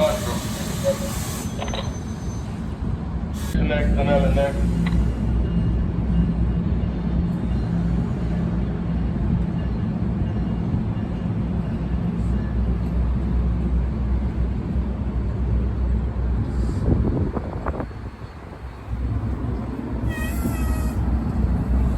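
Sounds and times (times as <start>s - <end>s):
freight train passing: 0.0s - 21.9s.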